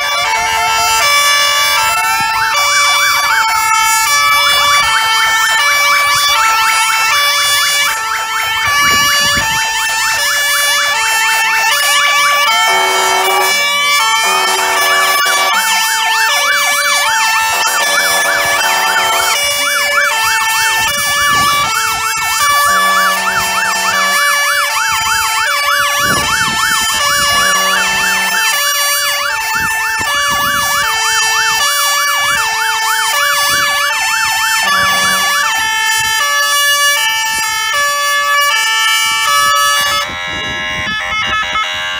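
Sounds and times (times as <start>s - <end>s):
siren sweeping upward: 0.0s - 41.9s
two-tone siren: 0.0s - 41.9s
yelp siren: 0.0s - 41.9s.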